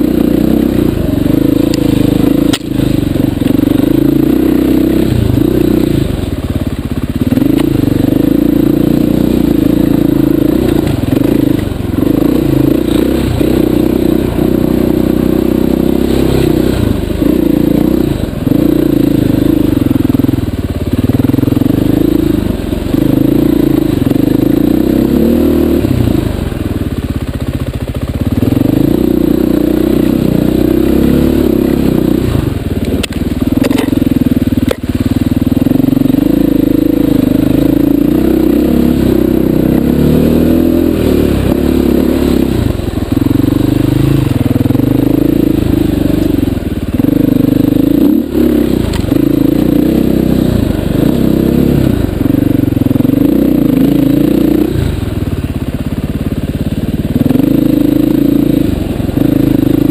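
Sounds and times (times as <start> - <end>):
dirt bike engine revving: 0.0 - 26.8, 28.3 - 59.9.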